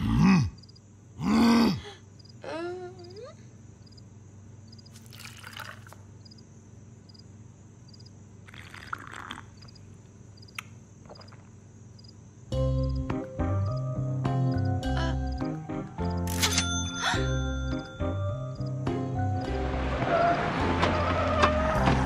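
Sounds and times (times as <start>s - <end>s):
crickets chirping: 0.0s - 16.4s, 17.0s - 20.5s.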